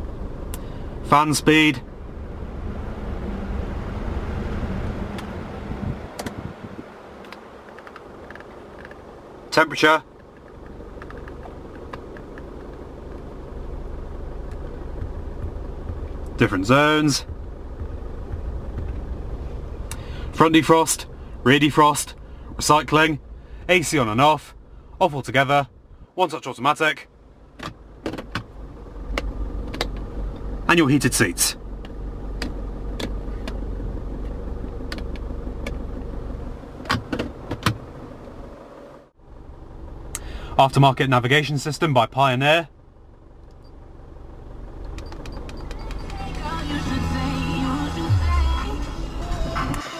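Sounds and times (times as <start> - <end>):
diesel engine idling: 0.0 - 26.2, 26.8 - 49.8.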